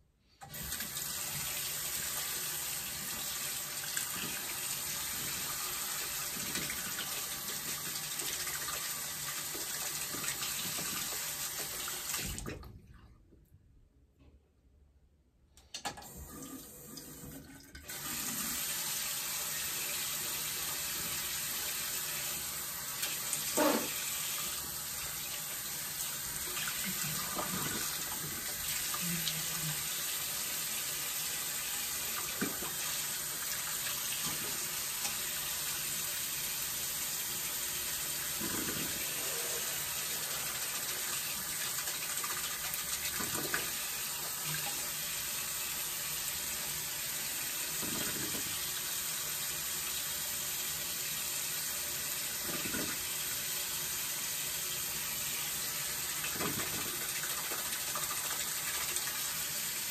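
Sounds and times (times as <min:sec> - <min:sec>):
faucet water running: 0:00.4 - 0:12.7, 0:16.0 - 0:59.9.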